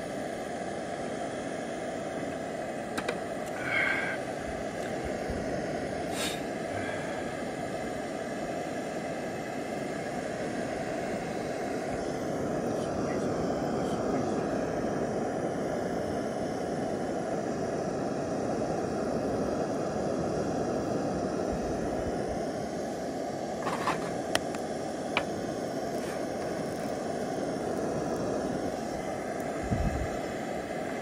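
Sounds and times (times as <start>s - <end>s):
gas burner flame rumble: 0.0s - 31.0s.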